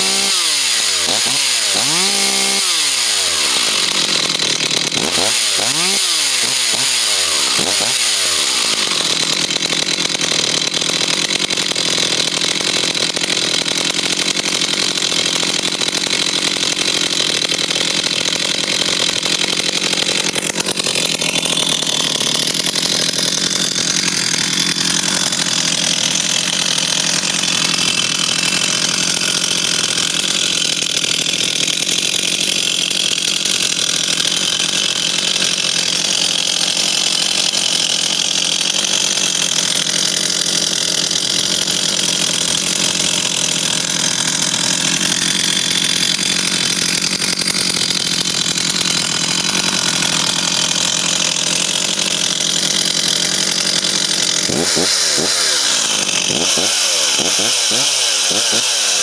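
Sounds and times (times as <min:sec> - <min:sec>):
chainsaw engine running: 0:00.0 - 0:59.0.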